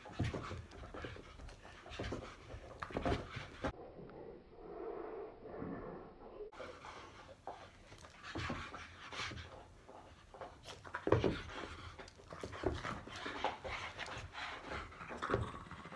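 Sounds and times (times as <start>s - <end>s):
dog panting hard: 0.0s - 3.7s, 6.6s - 15.9s
paws scrabbling on floor: 0.0s - 3.7s, 6.6s - 15.9s.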